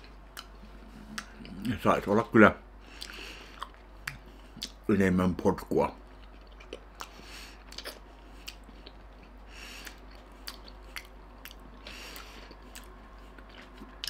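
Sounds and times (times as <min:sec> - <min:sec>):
person chewing food: 0:00.0 - 0:01.7, 0:02.8 - 0:04.8, 0:06.0 - 0:14.0.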